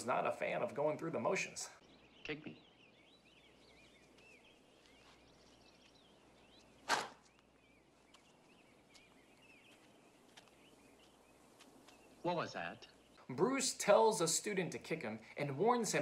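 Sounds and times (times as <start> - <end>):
birds chirping softly: 0.0 - 16.0.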